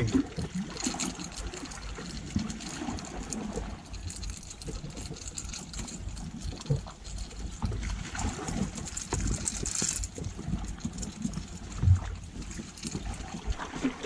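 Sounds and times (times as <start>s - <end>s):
sea water washing against rocks: 0.0s - 14.0s
wind rumbling on microphone: 0.0s - 14.0s.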